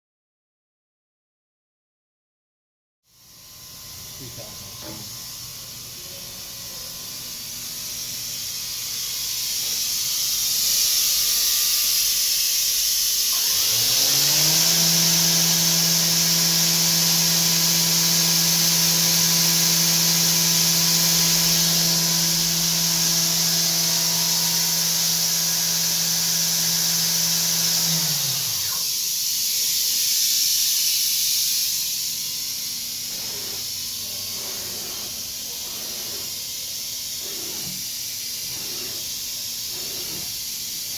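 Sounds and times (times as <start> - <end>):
machine loud hiss: 3.1 - 40.9.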